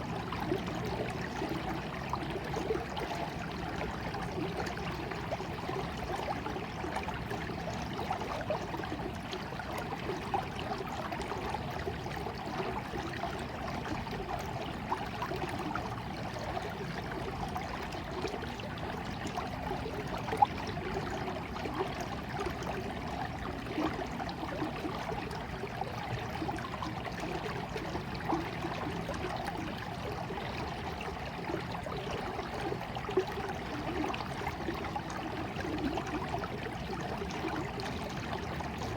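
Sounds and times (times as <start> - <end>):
stream trickling and gurgling: 0.0 - 38.9.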